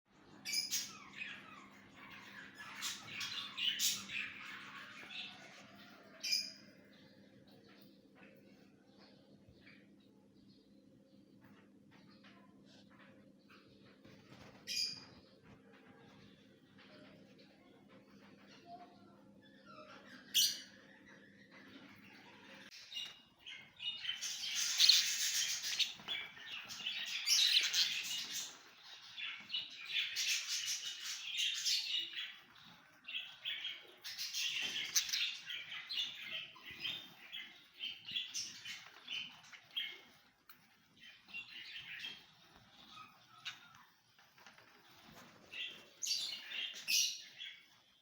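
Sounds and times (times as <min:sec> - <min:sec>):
caged birds chirping: 0:00.1 - 0:48.0.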